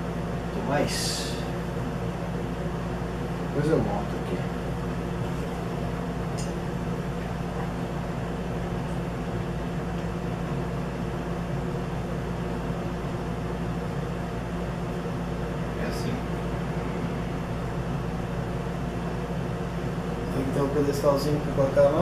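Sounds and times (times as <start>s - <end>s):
electrical room hum: 0.0s - 22.0s.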